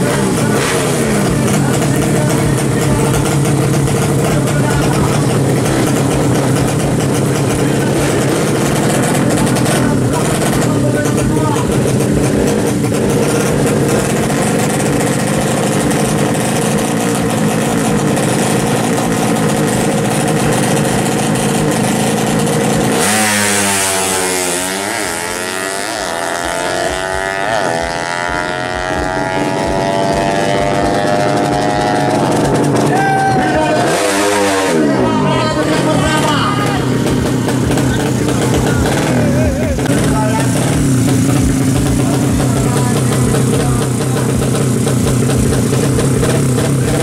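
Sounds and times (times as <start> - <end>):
motorcycle accelerating through gears: 0.0 - 47.0
motorcycle engines revving: 0.0 - 47.0.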